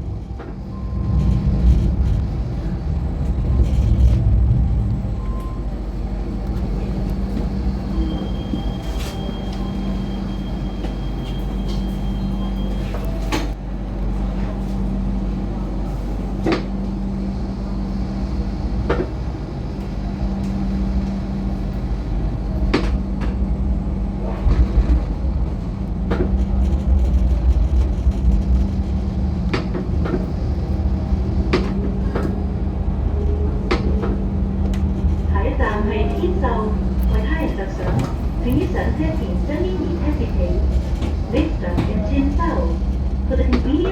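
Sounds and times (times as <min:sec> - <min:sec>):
light rail car rumbling on track: 0:00.0 - 0:43.9.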